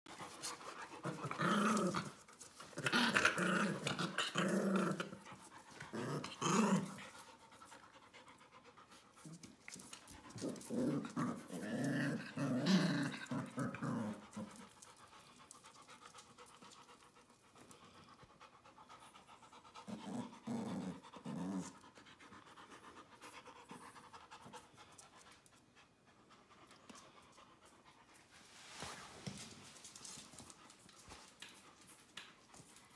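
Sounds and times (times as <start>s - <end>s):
puppies panting and playing: 0.1s - 12.0s, 12.6s - 32.9s.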